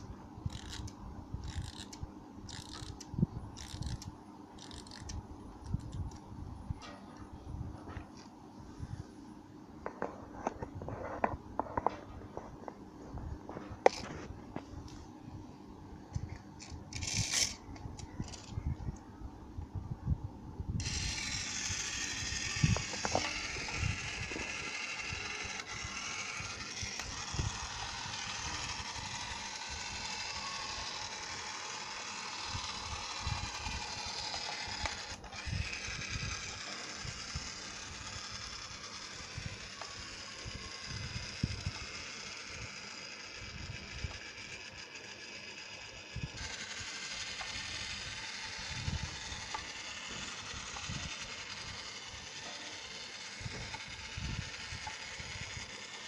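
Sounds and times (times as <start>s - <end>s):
toy boat motor whirring: 0.0s - 6.2s, 13.7s - 15.0s, 16.1s - 19.0s, 20.8s - 56.0s.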